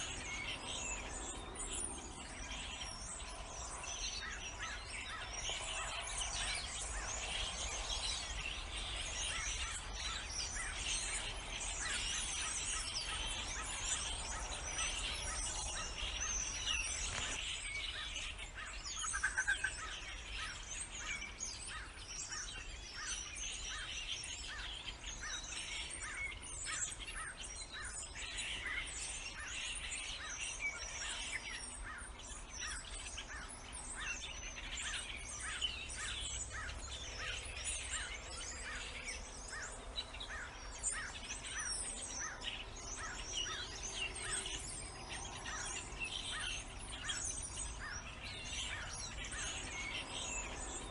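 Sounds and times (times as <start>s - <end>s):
bird chorus: 0.0s - 50.9s.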